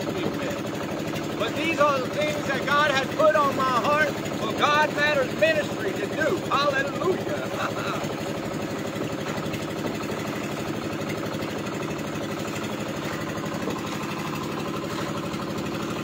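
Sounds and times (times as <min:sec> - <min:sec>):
boat engine chugging: 0:00.0 - 0:16.0.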